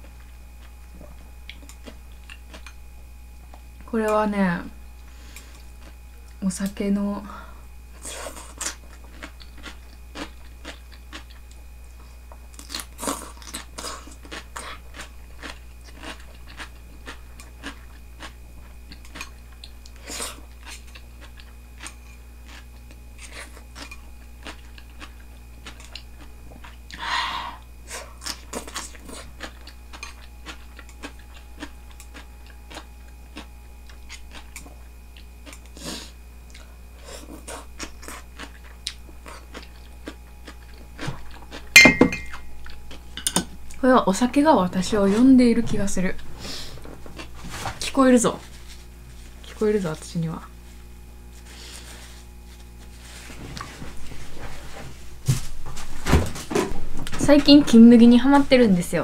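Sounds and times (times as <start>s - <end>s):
person chewing and crunching food: 0.0s - 2.9s, 5.0s - 6.4s, 7.9s - 43.8s, 46.2s - 49.9s, 50.5s - 55.9s.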